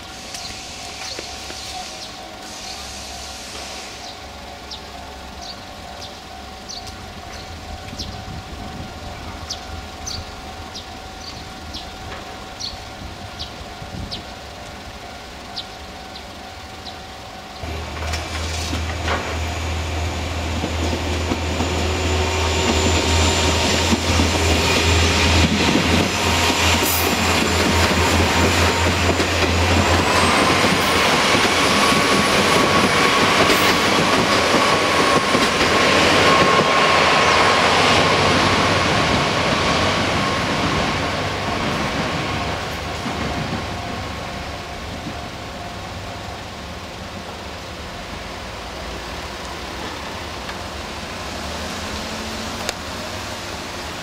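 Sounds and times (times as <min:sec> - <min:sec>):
train passing: 0:00.0 - 0:54.0.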